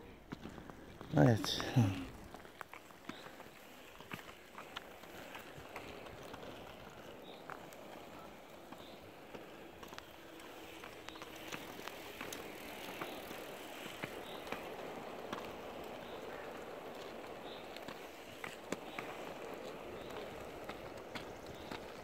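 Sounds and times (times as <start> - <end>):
skate wheels rolling on asphalt: 0.0 - 22.0.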